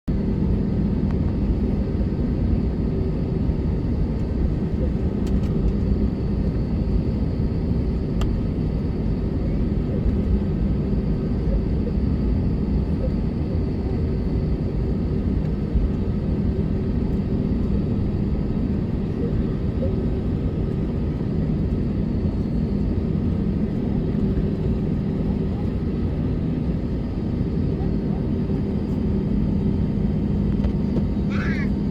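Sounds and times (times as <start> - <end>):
aircraft cabin engine rumble: 0.1 - 31.9.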